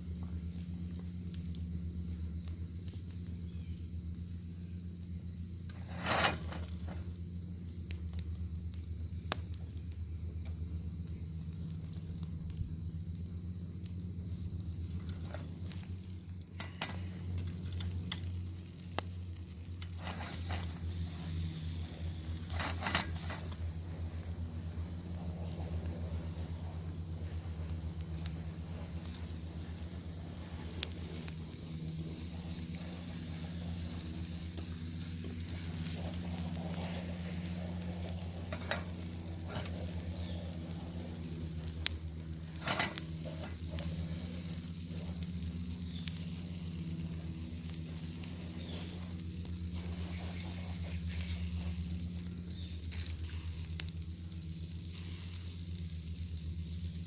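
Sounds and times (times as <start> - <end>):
low hum: 0.0 - 57.0
bacon sizzling: 10.7 - 57.0.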